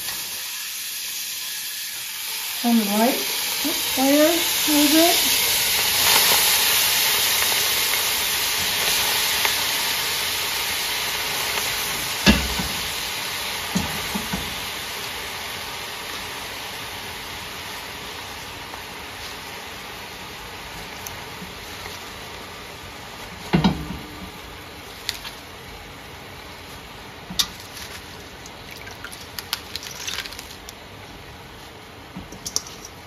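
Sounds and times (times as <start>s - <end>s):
leaves sizzling in butter: 0.0s - 33.0s.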